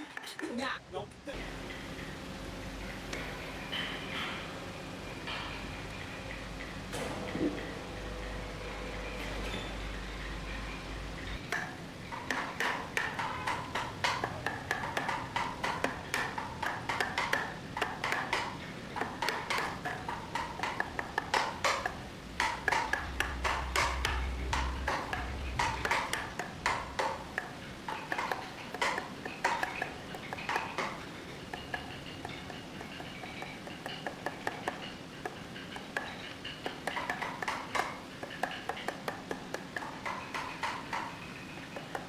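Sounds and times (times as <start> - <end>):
metallic taps and clinks: 3.1 - 42.0.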